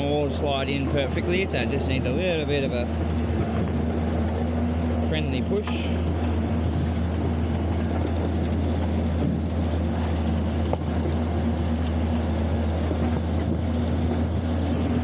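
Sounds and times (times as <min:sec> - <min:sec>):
agitator engine droning: 0:00.0 - 0:15.0.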